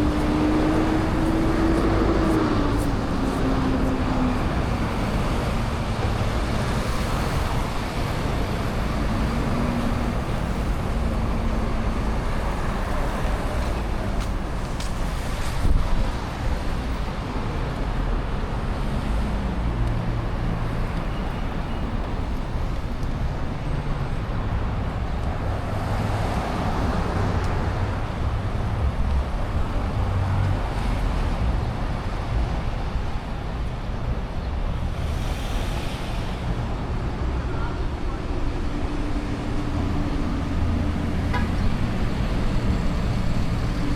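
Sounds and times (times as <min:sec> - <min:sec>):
traffic rumble: 0:00.0 - 0:43.9.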